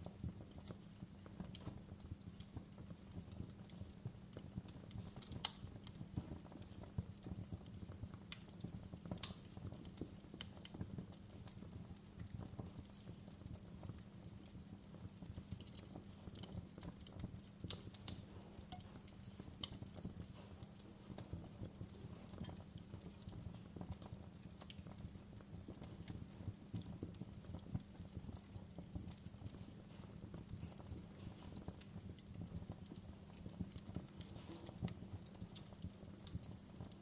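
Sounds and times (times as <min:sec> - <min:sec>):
fireplace fire crackling: 0:00.0 - 0:37.0.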